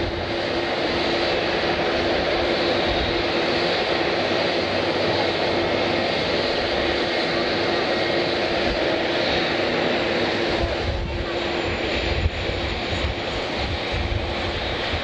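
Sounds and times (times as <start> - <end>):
airliner engines running: 0.0 - 15.0.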